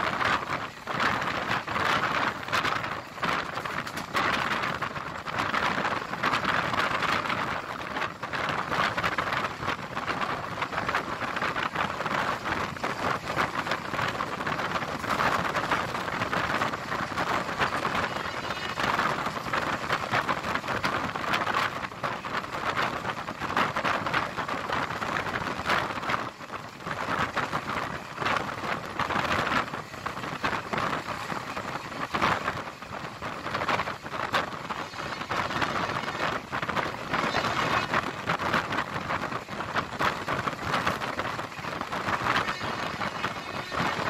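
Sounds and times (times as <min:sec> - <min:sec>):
train wheels rattling on rails: 0:00.0 - 0:44.0.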